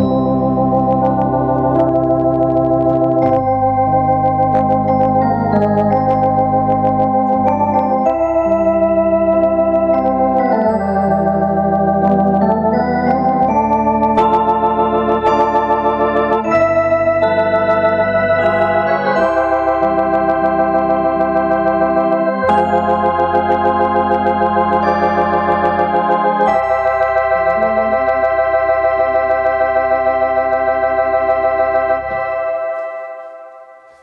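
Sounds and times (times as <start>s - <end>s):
organ chords over bass line: 0.0s - 34.0s.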